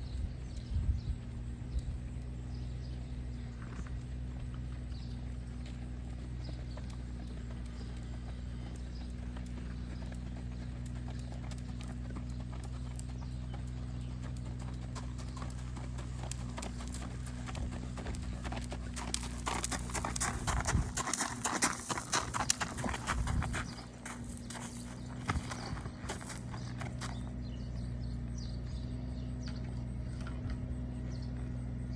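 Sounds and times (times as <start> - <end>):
steady low hum: 0.0 - 31.9
horse hooves clip-clopping: 0.1 - 27.5.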